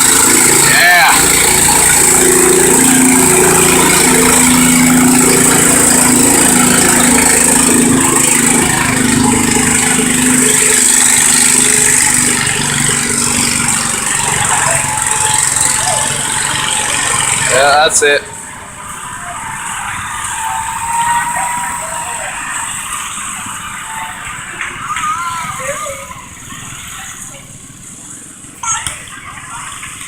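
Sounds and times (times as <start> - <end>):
tractor engine running hard: 0.0 - 30.0.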